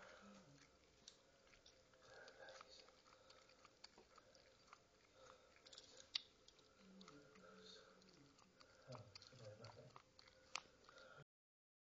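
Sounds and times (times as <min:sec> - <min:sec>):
faint room hiss: 0:00.0 - 0:11.2.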